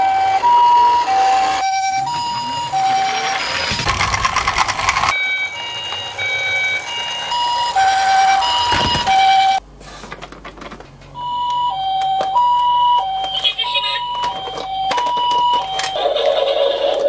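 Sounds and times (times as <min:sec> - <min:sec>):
toy ambulance two-tone siren: 0:00.0 - 0:09.6, 0:11.2 - 0:17.0.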